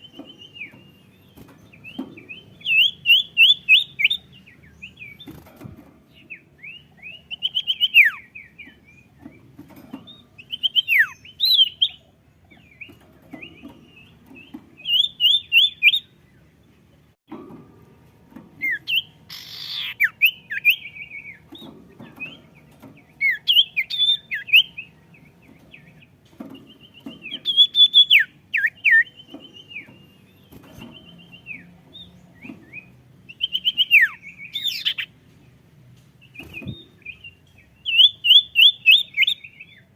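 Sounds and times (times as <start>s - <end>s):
songbird chirping and whistling: 0.0s - 5.4s, 6.2s - 9.4s, 10.1s - 16.5s, 18.6s - 35.2s, 36.2s - 39.9s.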